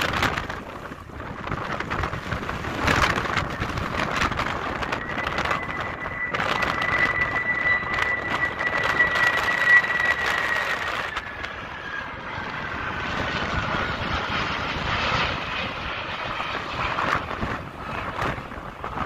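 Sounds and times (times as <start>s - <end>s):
jet airliner passing overhead: 0.0s - 19.0s.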